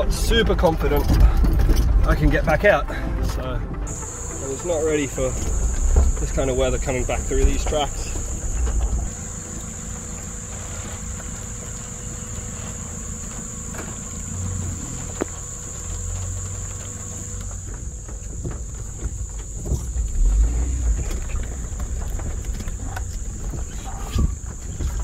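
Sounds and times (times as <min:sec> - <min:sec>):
car engine running low: 0:00.0 - 0:25.0.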